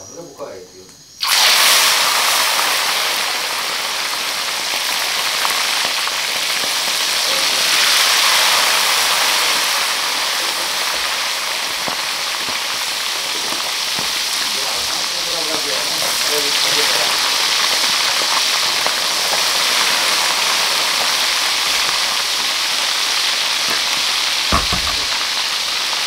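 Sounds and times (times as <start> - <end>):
fish deep-frying in hot oil: 1.1 - 26.0.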